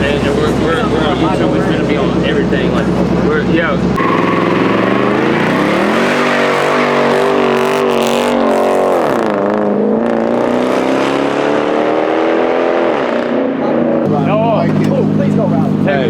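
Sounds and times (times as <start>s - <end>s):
car engine at high revs: 0.0s - 16.0s.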